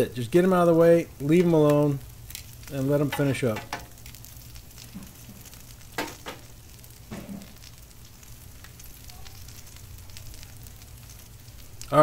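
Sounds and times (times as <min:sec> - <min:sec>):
meat sizzling on a griddle: 0:00.0 - 0:12.0
sharp crackles: 0:00.0 - 0:12.0.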